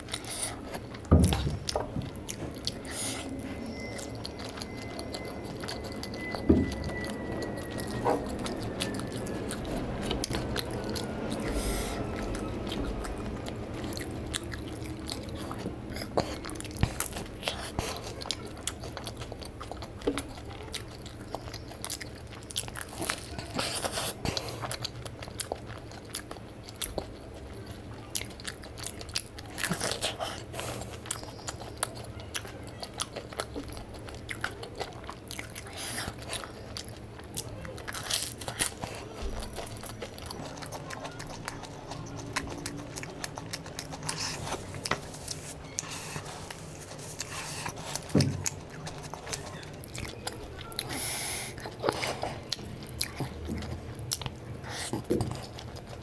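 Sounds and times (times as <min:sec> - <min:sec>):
man chewing crunchy snack: 0:00.0 - 0:56.0.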